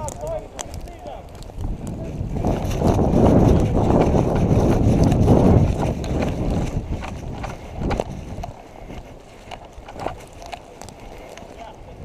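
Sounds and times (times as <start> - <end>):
footsteps: 0.0 - 12.0
gear rubbing on microphone: 1.6 - 11.3.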